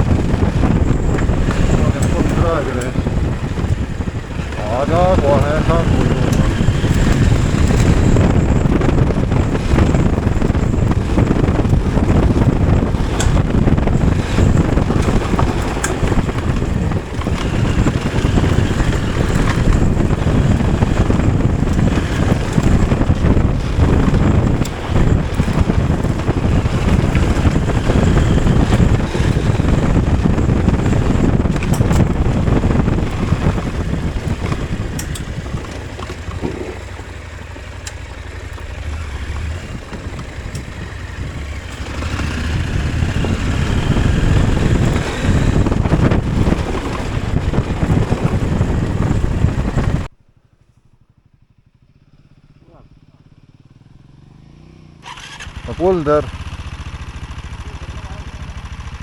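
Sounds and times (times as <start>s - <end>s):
wind buffeting microphone: 0.0s - 50.2s
motorcycle engine running: 0.0s - 59.0s.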